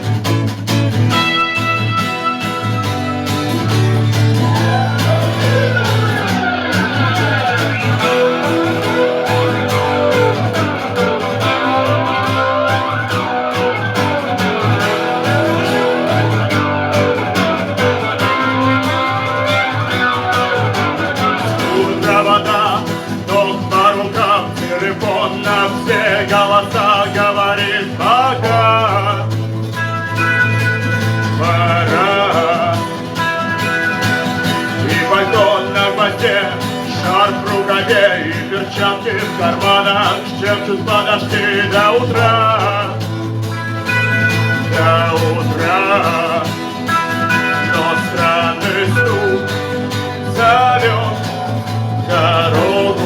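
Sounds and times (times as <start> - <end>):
guitar-led rock music: 0.0 - 53.0
wavering melody line: 1.2 - 24.6, 25.2 - 40.2, 41.5 - 53.0.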